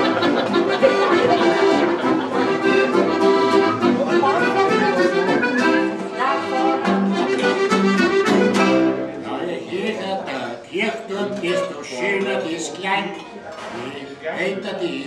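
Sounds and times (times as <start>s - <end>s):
accordion: 0.0s - 12.8s
live folk music: 0.0s - 15.0s.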